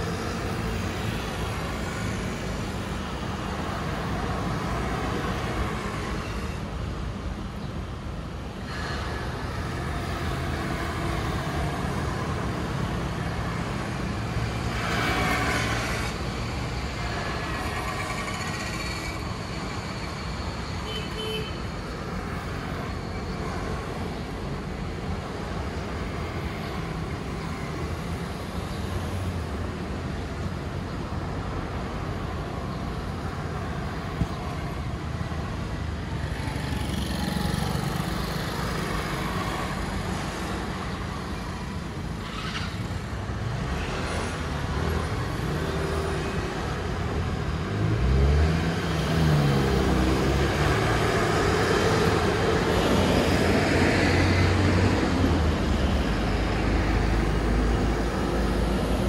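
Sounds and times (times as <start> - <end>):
traffic driving past: 0.0 - 59.0.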